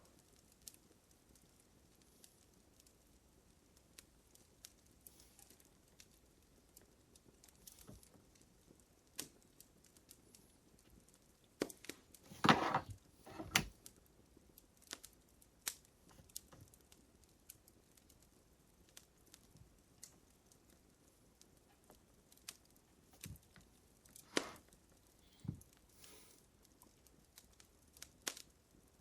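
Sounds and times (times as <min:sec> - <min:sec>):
wood fire crackling: 0:00.1 - 0:29.0.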